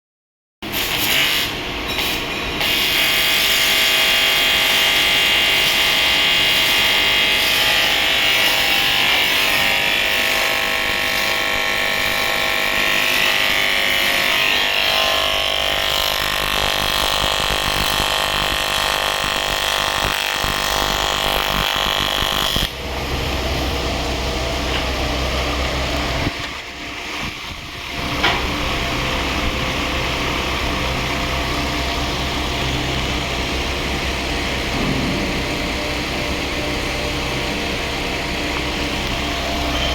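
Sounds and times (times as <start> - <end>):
welding arc buzzing: 0.6 - 39.9.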